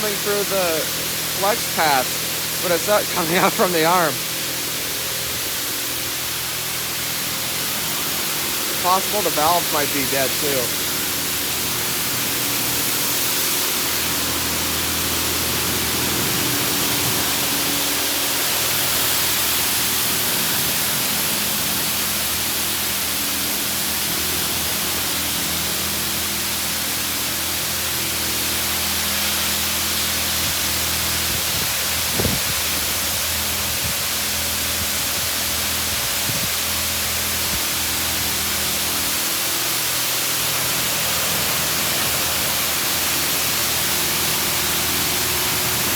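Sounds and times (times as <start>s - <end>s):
water spraying against car: 0.0s - 45.9s.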